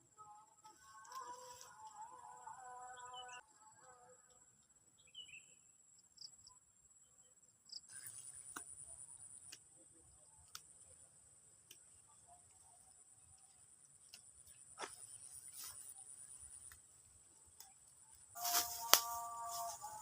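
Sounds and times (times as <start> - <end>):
insects trilling: 0.1 - 5.6, 7.7 - 20.0.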